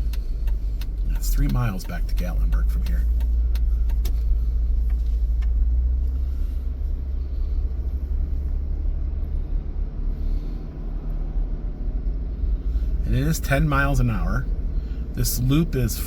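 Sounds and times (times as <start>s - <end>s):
car cabin low rumble: 0.0s - 16.0s.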